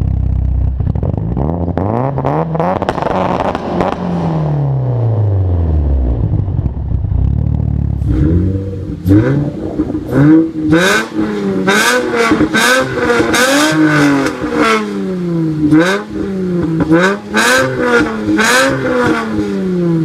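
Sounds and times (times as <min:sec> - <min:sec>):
car engine throttle blips: 0:00.0 - 0:20.0
exhaust popping and crackling: 0:00.0 - 0:20.0
turbocharged car engine revving: 0:00.0 - 0:20.0.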